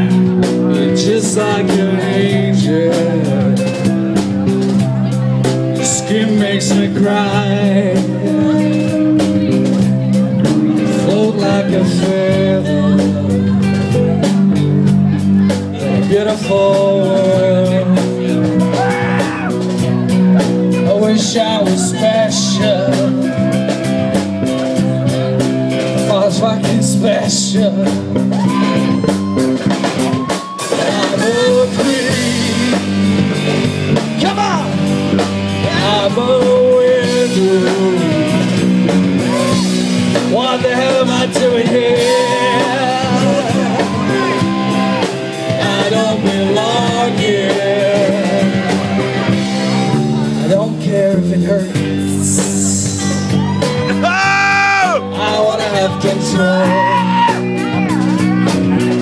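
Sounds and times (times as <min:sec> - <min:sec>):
male crooner singing: 0:00.0 - 0:04.5, 0:05.1 - 0:14.4, 0:15.4 - 0:25.4, 0:26.0 - 0:33.2, 0:34.2 - 0:34.9, 0:35.6 - 0:59.0
instrumental backing: 0:00.0 - 0:59.0.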